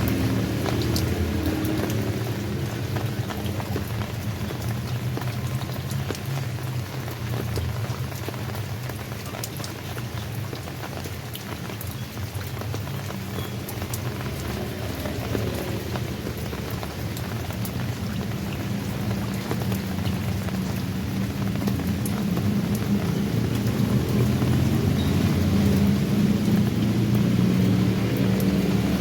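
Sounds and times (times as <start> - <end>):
raindrops striking sharply: 0.0 - 29.0
steady rain: 0.0 - 29.0.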